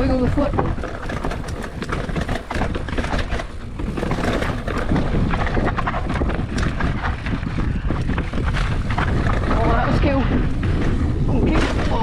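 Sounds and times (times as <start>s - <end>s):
bike clattering over bumps: 0.0s - 12.0s
wind rumbling on microphone: 0.0s - 12.0s.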